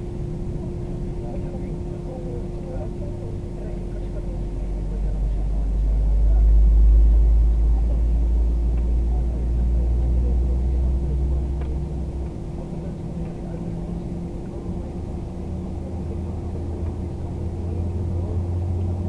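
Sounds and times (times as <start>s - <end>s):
constant cabin hum: 0.0s - 19.0s
heavy low rumble: 0.0s - 19.0s
jet engine noise: 0.0s - 19.0s.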